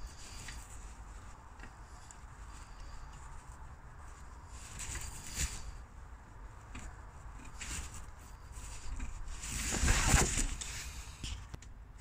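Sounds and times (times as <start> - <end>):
rubber hoses rubbing and scraping: 0.0 - 11.5.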